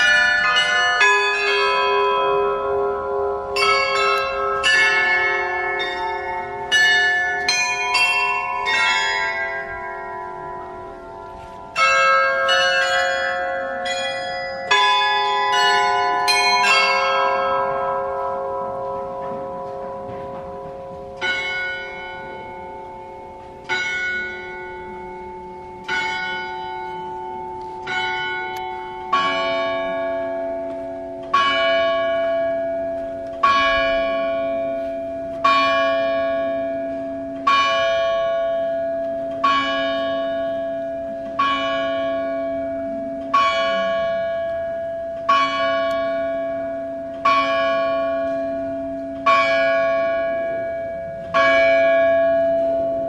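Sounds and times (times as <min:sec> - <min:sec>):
carillon bells ringing: 0:00.0 - 0:53.0.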